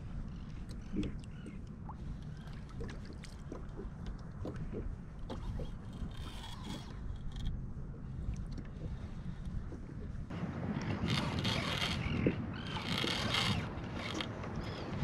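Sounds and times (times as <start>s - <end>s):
waves lapping against hull: 0.0s - 15.0s
wind rumbling on microphone: 0.0s - 15.0s.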